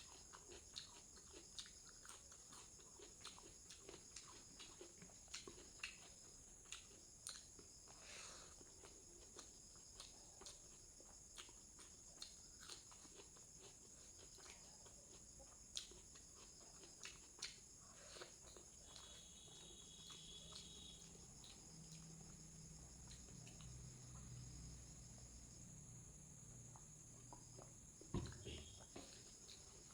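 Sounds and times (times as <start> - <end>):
mouth clicks and chewing: 0.0 - 24.7, 26.6 - 29.9
crickets chirping: 0.0 - 29.9.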